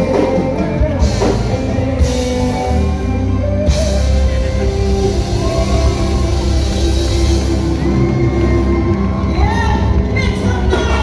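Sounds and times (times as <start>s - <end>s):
loud band music: 0.0s - 11.0s.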